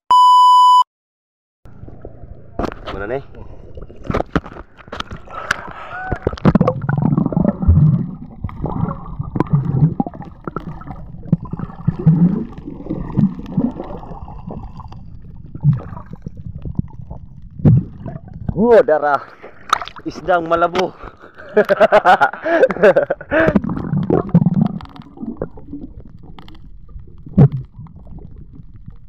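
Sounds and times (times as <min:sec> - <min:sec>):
muffled underwater water gurgling: 0:01.7 - 0:29.0.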